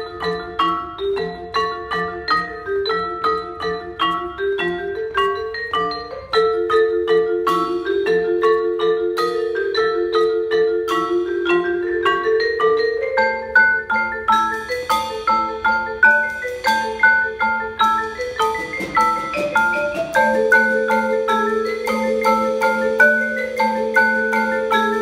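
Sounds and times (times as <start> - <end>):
marimba ensemble playing: 0.0 - 25.0.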